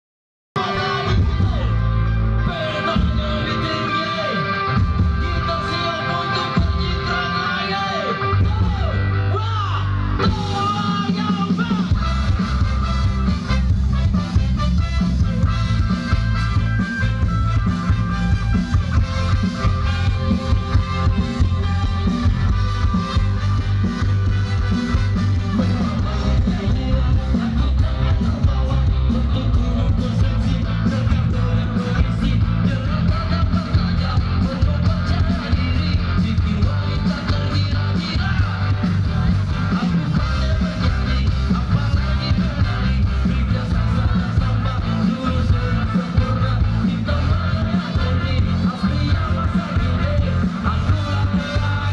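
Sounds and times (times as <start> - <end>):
amplified live band music: 0.6 - 51.9.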